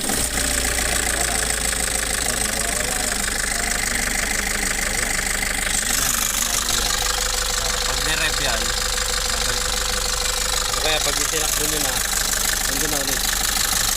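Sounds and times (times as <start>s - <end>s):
diesel engine idling with knock: 0.0s - 13.9s.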